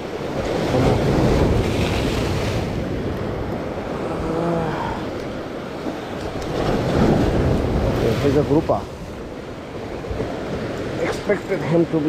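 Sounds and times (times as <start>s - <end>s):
sea surf breaking on concrete: 0.0s - 4.2s, 5.1s - 12.0s
wind buffeting microphone: 0.0s - 12.0s.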